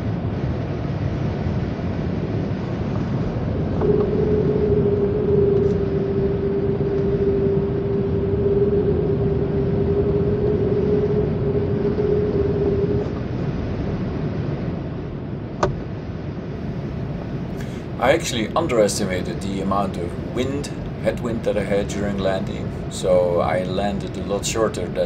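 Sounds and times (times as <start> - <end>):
air rushing past cockpit: 0.0 - 25.0
steady tone: 2.2 - 25.0.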